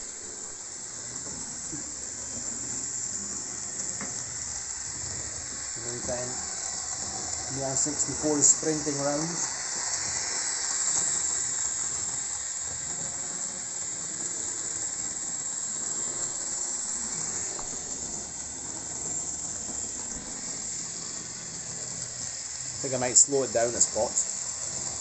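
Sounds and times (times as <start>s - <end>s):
high hiss: 0.0s - 25.0s
model train running on track: 0.0s - 25.0s.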